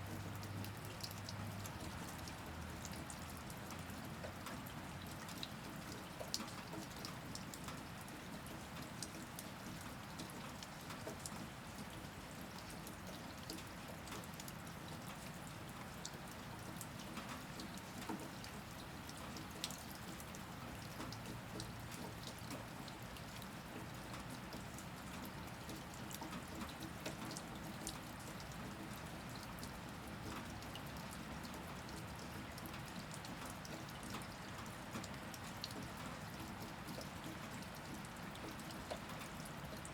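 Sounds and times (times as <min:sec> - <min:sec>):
raindrops ticking against a surface: 0:00.0 - 0:39.9
steady rain falling: 0:00.0 - 0:39.9.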